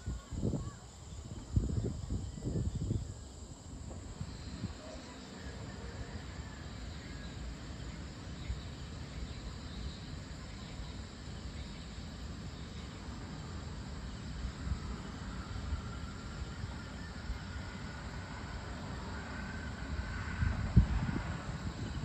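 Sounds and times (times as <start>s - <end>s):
faint insect calls: 0.0s - 22.0s
distant traffic rumble: 1.3s - 22.0s.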